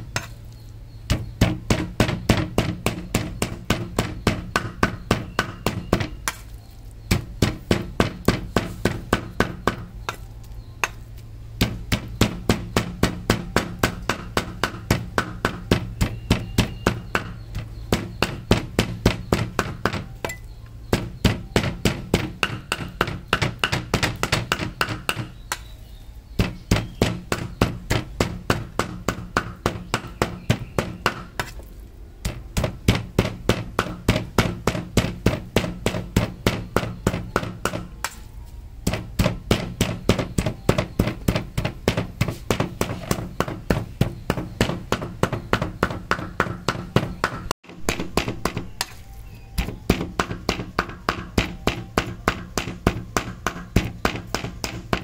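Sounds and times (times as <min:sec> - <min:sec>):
cleaver chopping on a board: 0:01.1 - 0:06.5, 0:07.1 - 0:10.2, 0:11.6 - 0:25.7, 0:26.4 - 0:38.2, 0:38.8 - 0:49.0, 0:49.6 - 0:55.0.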